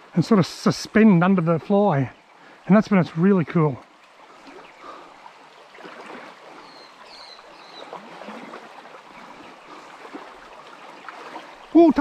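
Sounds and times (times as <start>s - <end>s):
stream water running: 0.0s - 12.0s.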